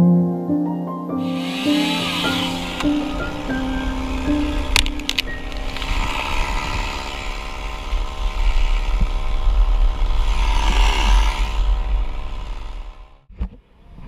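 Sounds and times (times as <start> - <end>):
chainsaw idling: 1.2 - 13.3
wind buffeting microphone: 2.1 - 14.0.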